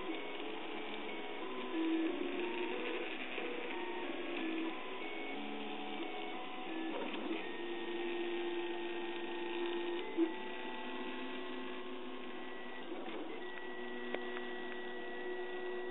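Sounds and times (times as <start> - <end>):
stepper motors whining: 0.0 - 15.9.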